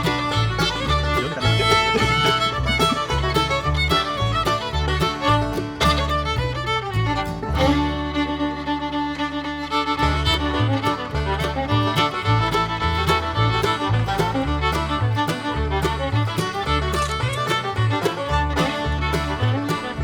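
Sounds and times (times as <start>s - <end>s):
upbeat fiddle tune with driving beat: 0.0s - 20.0s.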